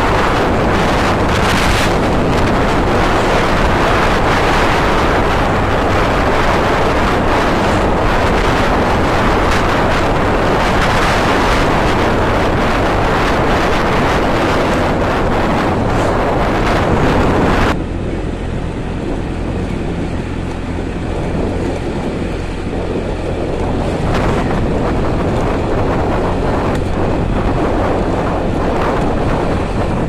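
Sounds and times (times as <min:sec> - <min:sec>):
motorcycle engine and road noise: 0:00.0 - 0:30.0
wind rush on microphone: 0:00.0 - 0:30.0.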